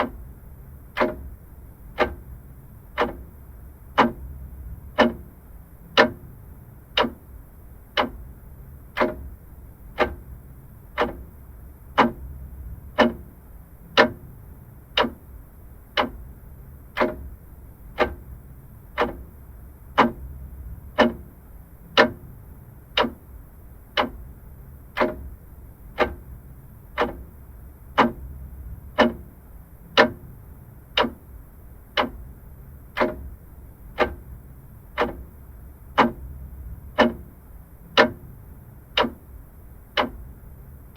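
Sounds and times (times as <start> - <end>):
clock ticking: 0.0 - 40.9.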